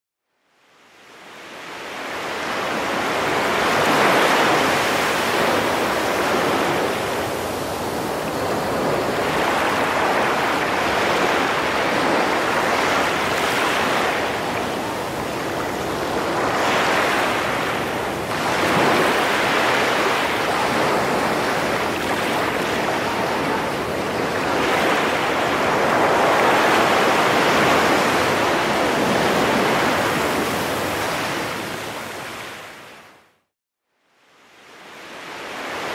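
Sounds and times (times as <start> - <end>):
ocean surf washing in and out: 0.5 - 33.3, 34.2 - 35.9.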